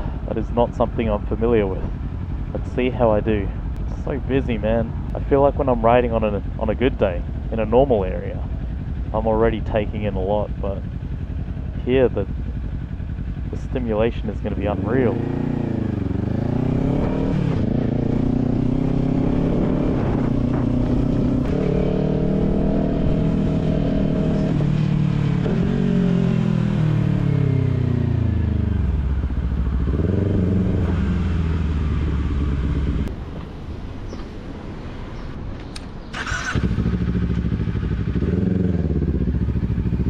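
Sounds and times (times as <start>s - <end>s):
motorcycle engine revving: 3.6s - 33.1s, 36.1s - 40.0s.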